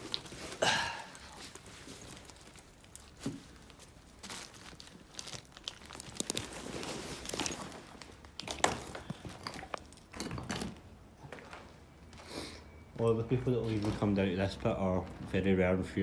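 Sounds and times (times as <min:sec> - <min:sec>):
rustling and crinkling: 0:00.0 - 0:12.3, 0:13.2 - 0:16.0.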